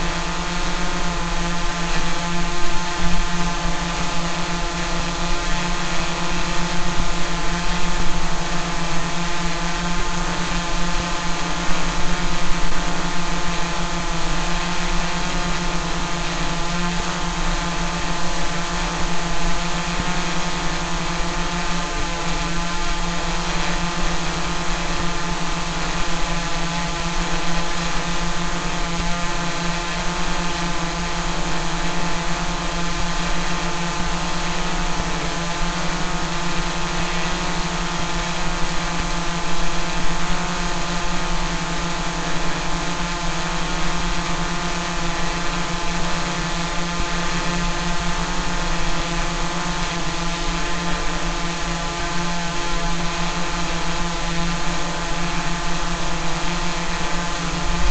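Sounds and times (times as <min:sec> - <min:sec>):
drone buzzing hum: 0:00.0 - 0:57.9.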